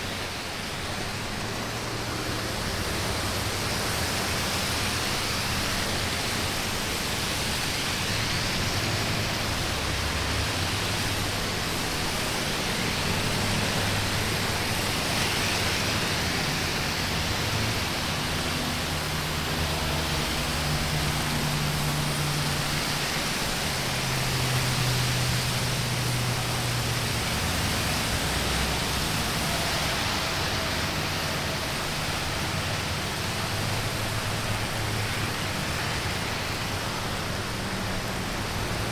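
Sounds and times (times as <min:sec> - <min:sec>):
passing vehicle engines humming: 0:00.0 - 0:38.9
tyres hissing on wet road: 0:00.0 - 0:38.9.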